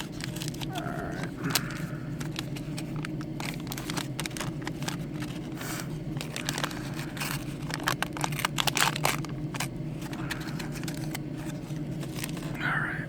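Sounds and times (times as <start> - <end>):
wax paper wrapper crackling: 0.0 - 12.6.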